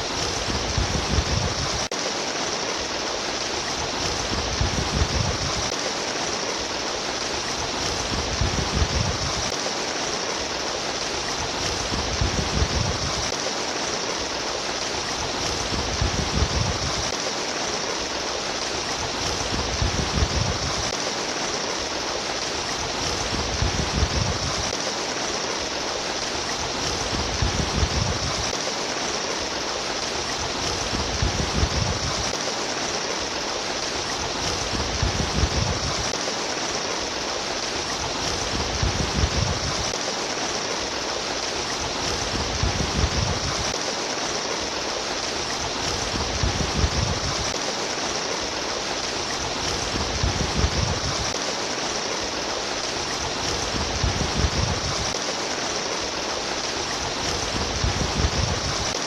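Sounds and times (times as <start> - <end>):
babbling stream: 0.0 - 59.0.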